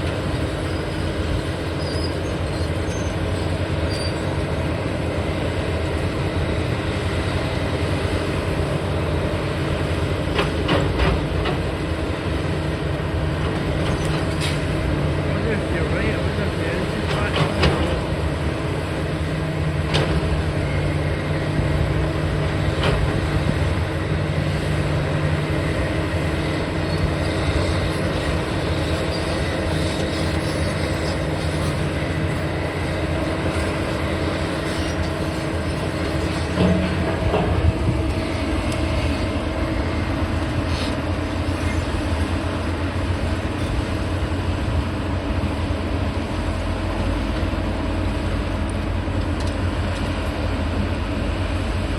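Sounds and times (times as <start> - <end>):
heavy diesel machinery drone: 0.0 - 51.9.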